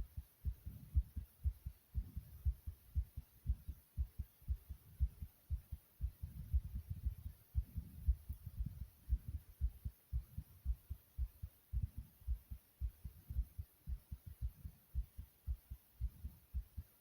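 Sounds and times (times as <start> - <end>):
fast heartbeat thumps: 0.0 - 17.0.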